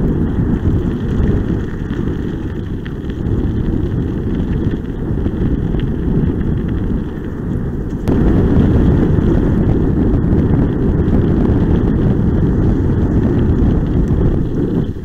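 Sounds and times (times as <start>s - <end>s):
kickbike rolling over gravel: 0.0s - 15.0s
wind rumble on microphone: 0.0s - 15.0s.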